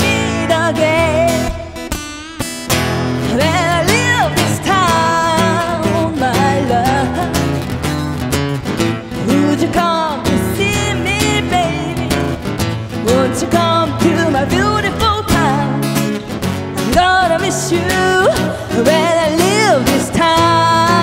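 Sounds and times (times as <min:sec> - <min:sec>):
person singing: 0:00.0 - 0:01.9, 0:03.2 - 0:07.7, 0:09.0 - 0:16.2, 0:16.8 - 0:21.0
guitar: 0:00.0 - 0:21.0.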